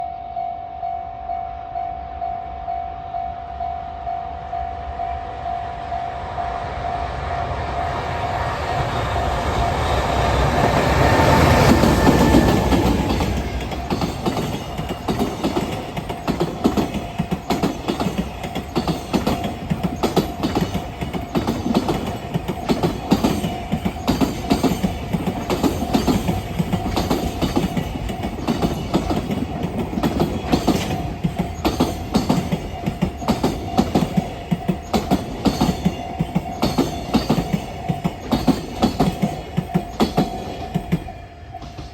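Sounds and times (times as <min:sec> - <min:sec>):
freight train passing: 0:00.0 - 0:41.9
wheels clacking over rail joints: 0:08.0 - 0:41.9.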